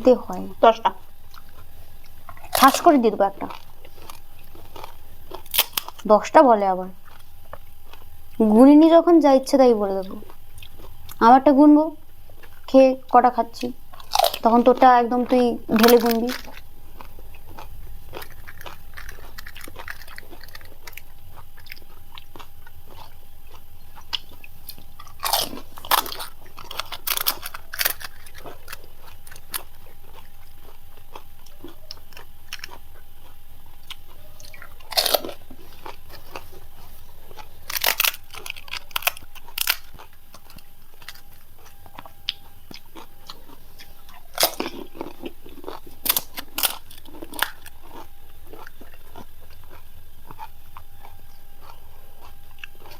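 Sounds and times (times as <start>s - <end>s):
crisp shells crunching when chewed: 0.0s - 8.5s, 9.6s - 52.9s.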